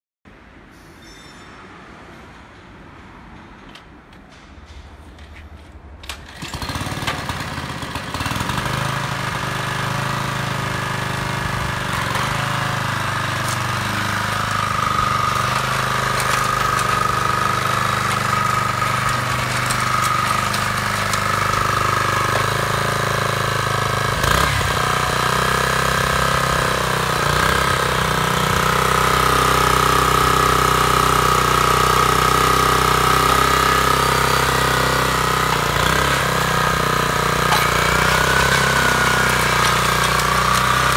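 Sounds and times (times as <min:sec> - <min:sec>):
small engine running: 0:06.1 - 0:40.9.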